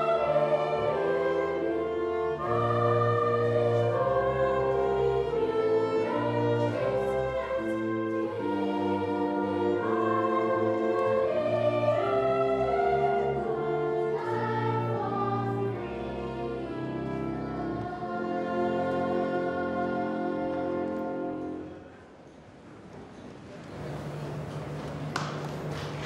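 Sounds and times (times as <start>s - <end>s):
children's choir singing: 0.0s - 21.9s
orchestra playing classical music: 0.0s - 22.3s, 23.5s - 26.0s.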